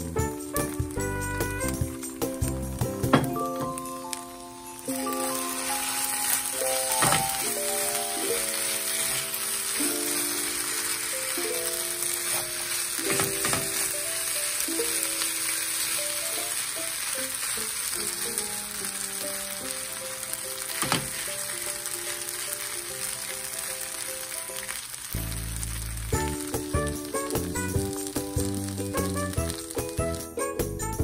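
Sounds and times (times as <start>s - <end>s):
rice sizzling in a pan: 0.0s - 31.0s.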